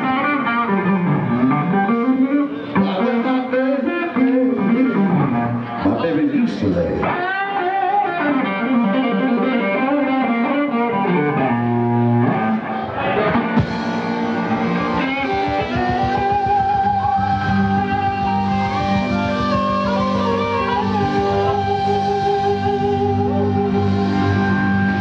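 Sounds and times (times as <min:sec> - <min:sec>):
electric guitar solo: 0:00.0 - 0:25.0
live band music: 0:00.0 - 0:25.0.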